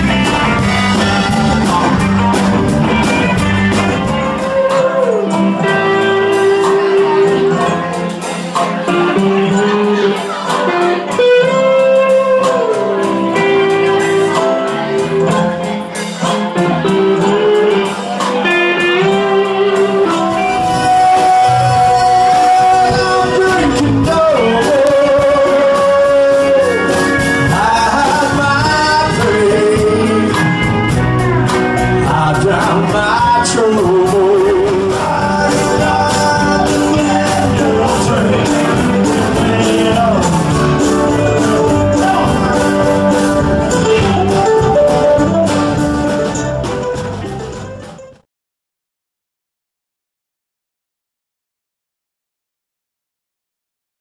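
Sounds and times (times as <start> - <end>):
person singing: 0.0 - 47.9
country band playing: 0.0 - 48.2
electric guitar: 0.0 - 48.2.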